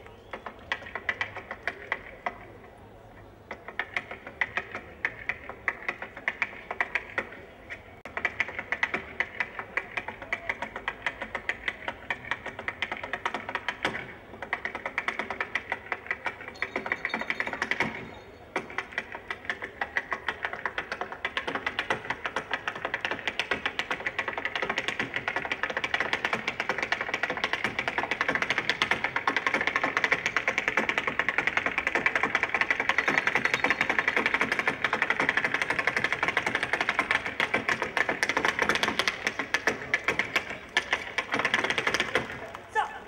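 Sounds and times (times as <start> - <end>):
rapid tapping clicks: 8.0 - 42.6.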